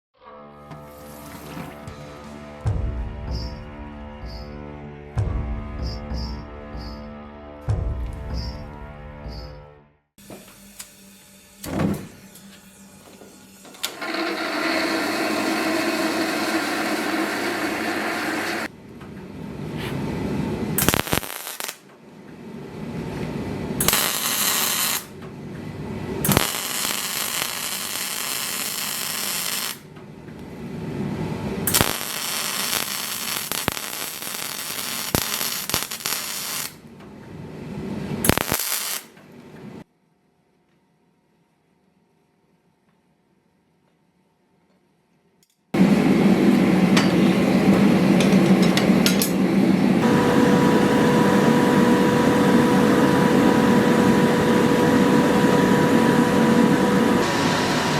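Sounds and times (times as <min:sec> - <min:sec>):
noisy workshop sound: 0:10.2 - 0:57.9.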